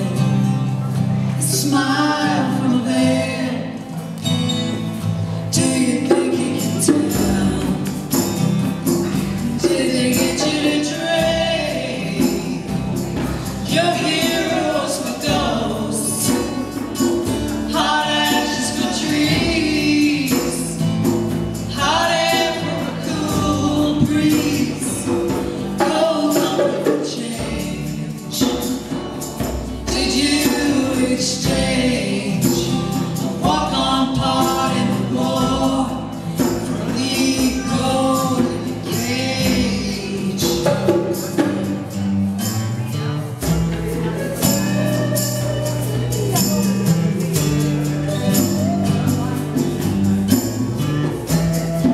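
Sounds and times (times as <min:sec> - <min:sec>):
several voices singing: 0:00.0 - 0:04.4, 0:05.3 - 0:42.1, 0:43.4 - 0:51.9
acoustic guitar: 0:00.0 - 0:51.9
shaken hand percussion: 0:00.0 - 0:51.9.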